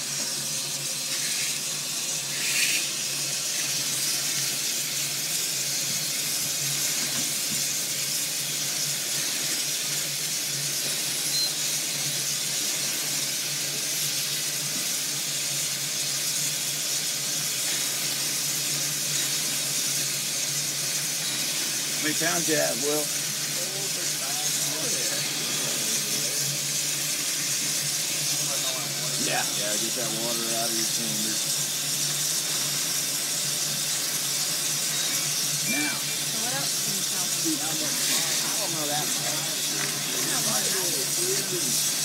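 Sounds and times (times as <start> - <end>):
steam hissing: 0.0 - 42.0.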